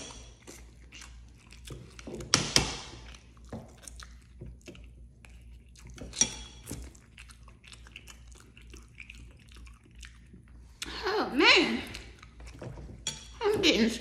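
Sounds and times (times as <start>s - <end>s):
wet chewing and lip smacking: 0.0s - 11.0s, 11.8s - 13.4s.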